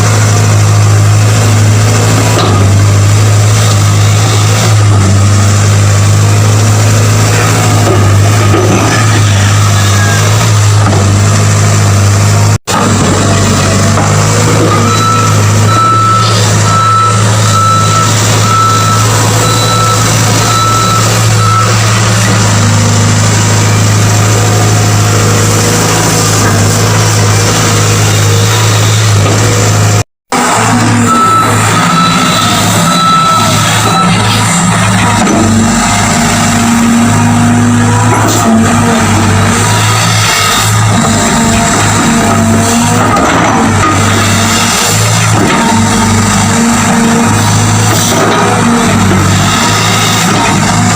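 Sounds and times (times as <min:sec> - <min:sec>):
excavator diesel engine droning: 0:00.0 - 0:50.9.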